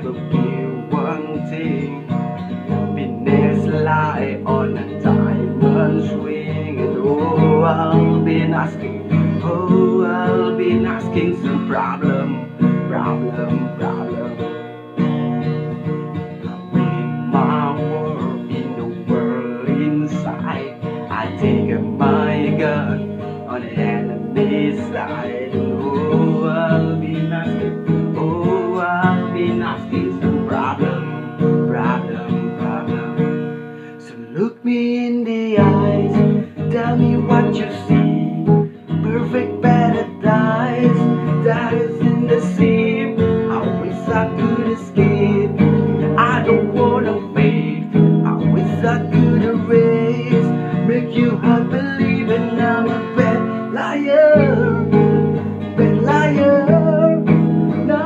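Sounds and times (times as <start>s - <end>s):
acoustic guitar strumming chords: 0.0s - 58.0s.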